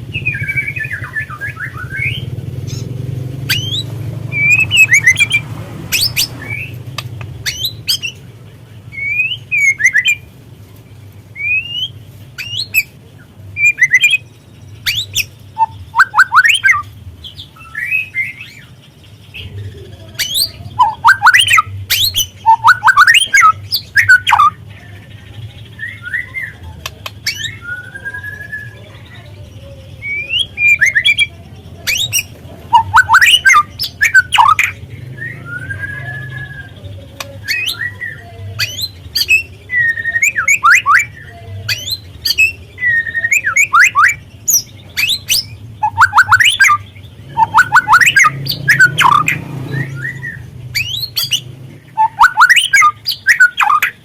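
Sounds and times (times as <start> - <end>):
songbird singing varied phrases: 0.0 - 54.0.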